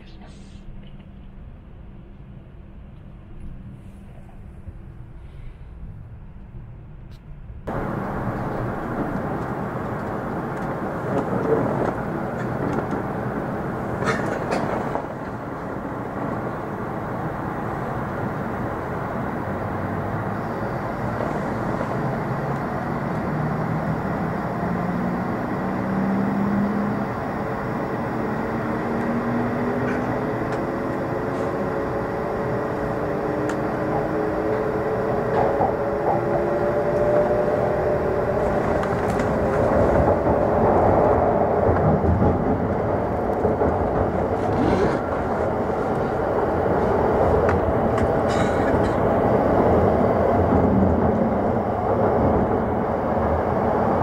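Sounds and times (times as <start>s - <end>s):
train motor whine: 7.7s - 53.8s.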